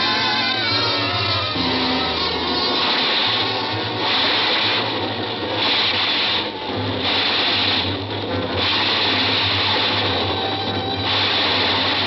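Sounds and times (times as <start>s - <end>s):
subway train rattling rumble: 1.0s - 12.0s.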